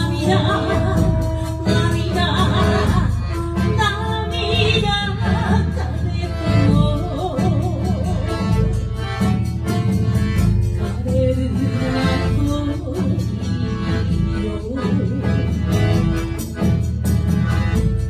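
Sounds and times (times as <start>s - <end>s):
drums and bass beat: 0.0s - 18.0s.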